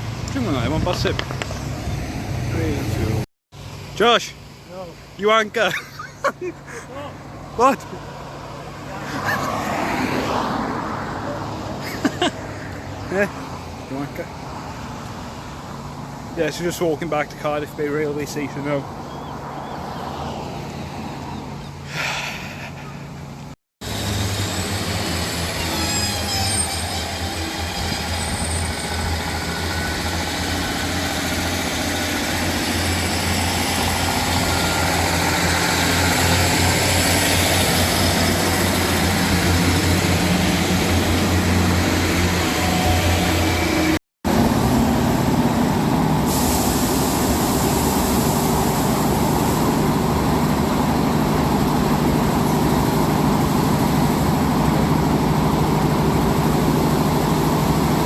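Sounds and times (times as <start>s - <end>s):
heavy vehicle engine hum: 0.0s - 58.0s
road or rail noise: 0.0s - 58.0s.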